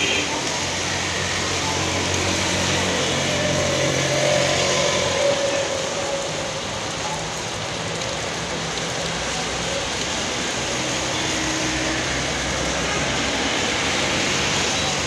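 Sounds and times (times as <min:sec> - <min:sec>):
rain falling on street: 0:00.0 - 0:15.0
traffic on wet road: 0:00.0 - 0:15.0.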